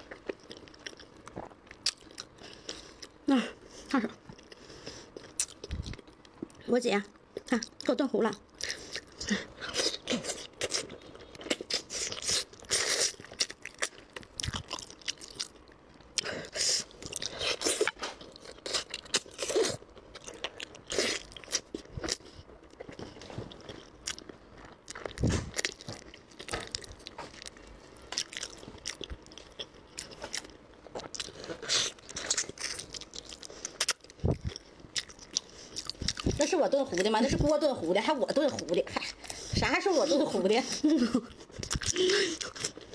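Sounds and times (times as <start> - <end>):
person chewing and crunching food: 0.0 - 42.9.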